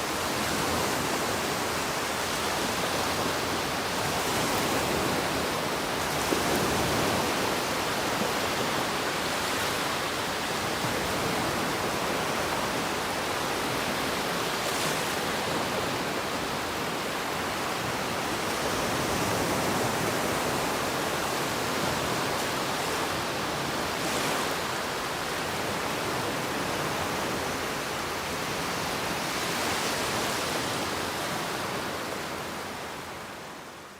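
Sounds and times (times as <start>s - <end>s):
ocean waves washing on beach: 0.0s - 33.9s.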